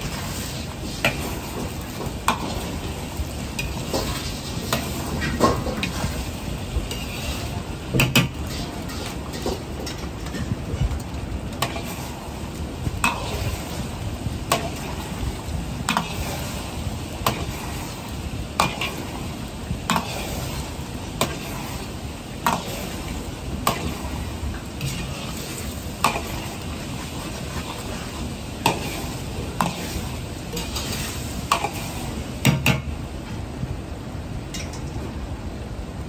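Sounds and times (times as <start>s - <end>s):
metal ladle scraping a wok: 0.0s - 12.4s, 13.0s - 32.7s
eggs sizzling in hot oil: 0.0s - 33.0s.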